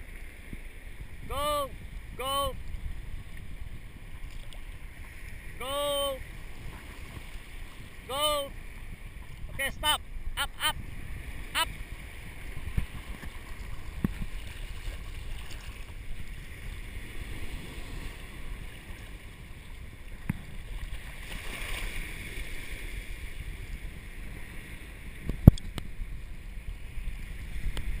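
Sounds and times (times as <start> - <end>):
shallow surf washing: 0.0 - 28.0
wind buffeting microphone: 0.0 - 28.0.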